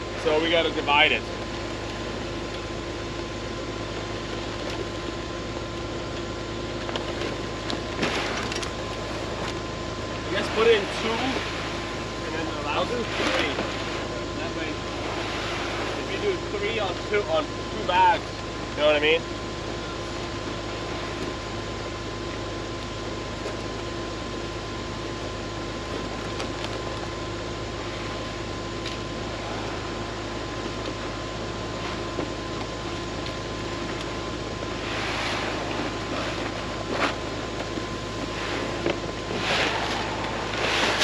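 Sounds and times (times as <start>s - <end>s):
fan-like whine: 0.0s - 41.0s
tractor mechanical drone: 0.0s - 41.0s.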